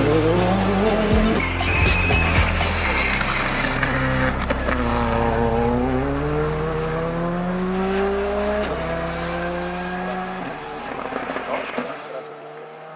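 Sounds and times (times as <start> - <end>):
rally car engine accelerating: 0.0 - 12.9.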